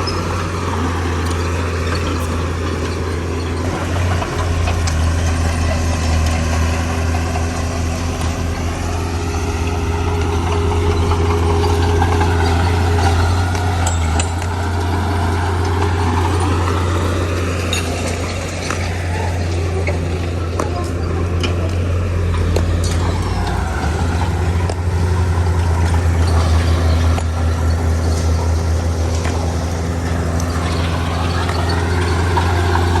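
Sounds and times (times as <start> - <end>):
heavy diesel engine humming: 0.0 - 33.0.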